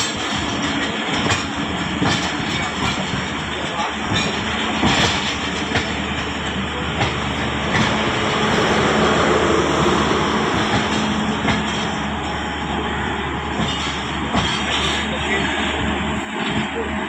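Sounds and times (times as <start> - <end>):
sharp clanks of wheels and couplings: 0.0 - 17.0
train rumbling: 0.0 - 17.0.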